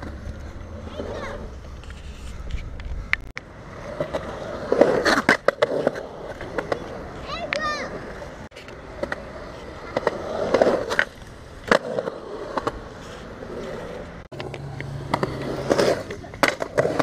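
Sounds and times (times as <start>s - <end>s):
skateboard clacks: 0.0s - 17.0s
skateboard wheels rolling on concrete: 0.0s - 17.0s.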